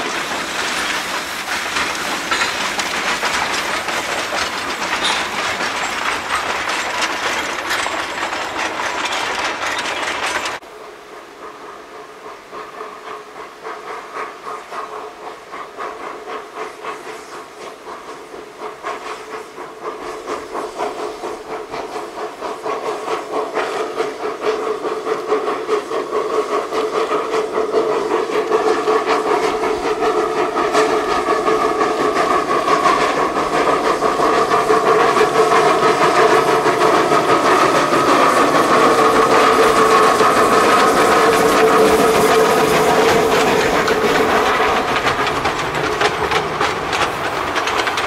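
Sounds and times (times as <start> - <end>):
steam hissing: 0.0 - 48.0
steam locomotive chuffing: 0.0 - 48.0.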